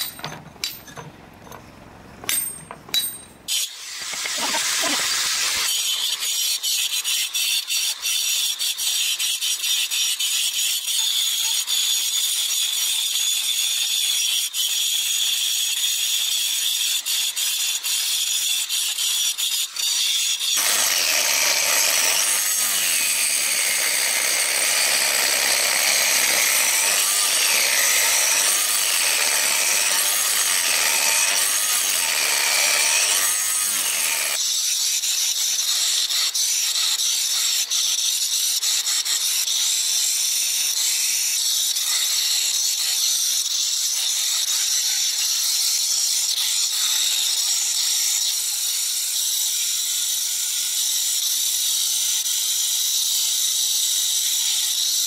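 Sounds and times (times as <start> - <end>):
angle grinder polishing stone: 3.5 - 55.0.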